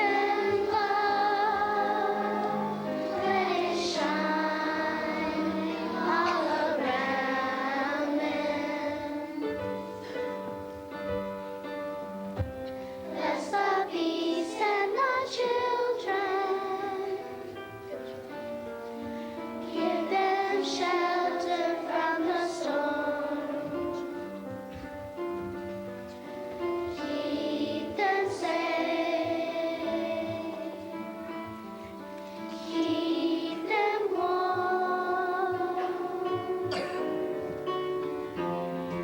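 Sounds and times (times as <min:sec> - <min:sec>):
children's choir singing: 0:00.0 - 0:11.0, 0:13.0 - 0:39.0
instrumental accompaniment: 0:00.0 - 0:39.0.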